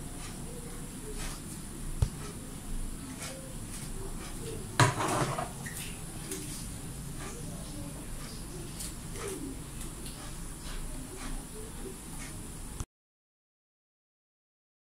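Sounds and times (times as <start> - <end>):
quiet room noise: 0.0 - 12.9.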